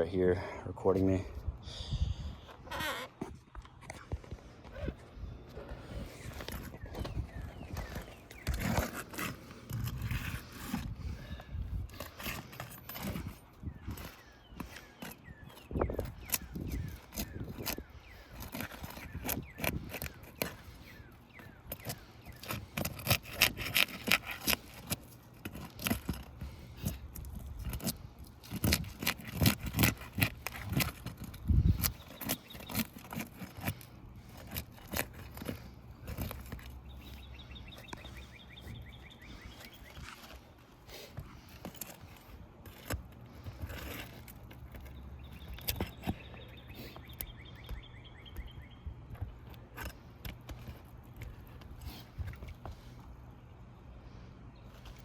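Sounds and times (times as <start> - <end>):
squeaky rattling scrapes: 2.2 - 48.0, 48.6 - 53.0
metal pry bar scraping shingles: 2.5 - 53.2.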